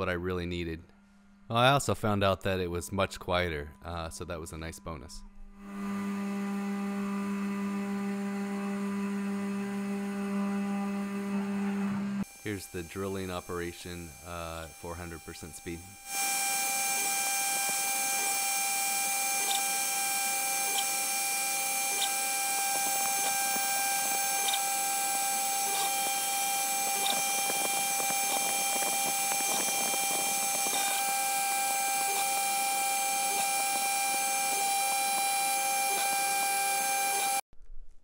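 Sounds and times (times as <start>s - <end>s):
router spindle whine: 5.6s - 37.4s.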